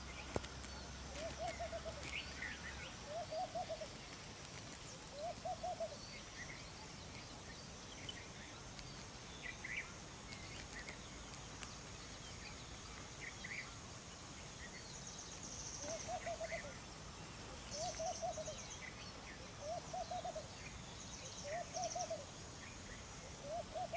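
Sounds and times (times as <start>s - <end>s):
bird chirps and trills: 0.0s - 23.9s
faint steady hiss: 0.0s - 23.9s.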